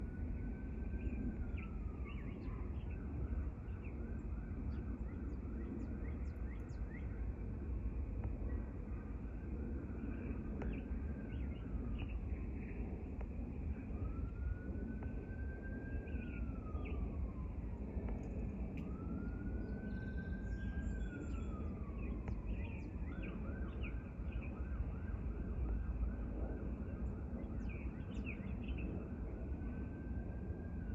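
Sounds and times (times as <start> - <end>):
emergency vehicle siren: 0.0 - 30.9.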